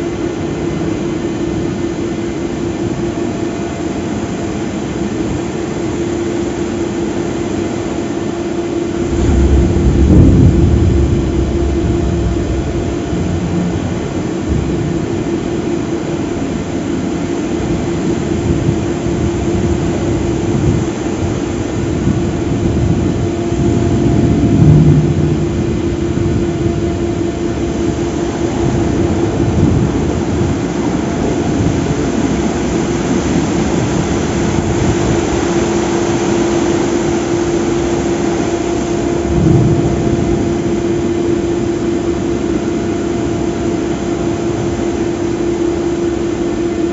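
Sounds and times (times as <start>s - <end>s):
crane hoist machine drone: 0.0s - 46.9s.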